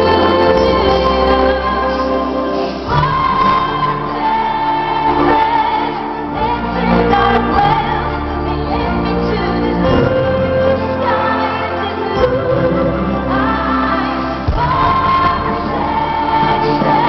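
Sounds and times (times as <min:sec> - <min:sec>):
bass notes: 0:00.0 - 0:17.0
keyboard notes: 0:00.0 - 0:17.0
person singing melody: 0:00.0 - 0:17.0.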